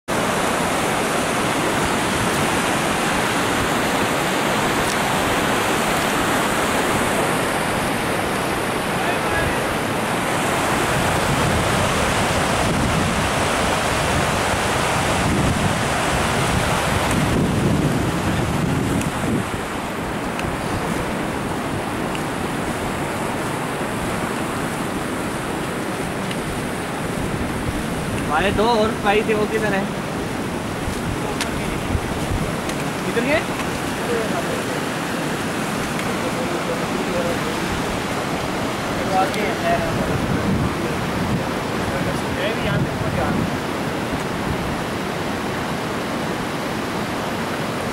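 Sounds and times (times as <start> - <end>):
stream rushing over rocks: 0.1 - 47.9.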